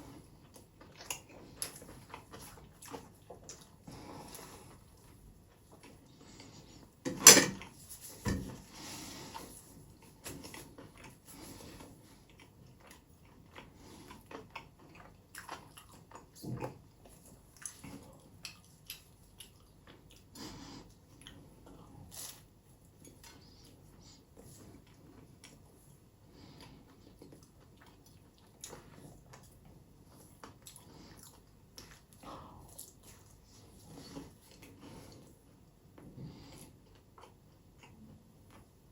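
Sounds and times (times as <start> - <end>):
chewing and crunching: 0.0 - 6.9, 9.0 - 38.9.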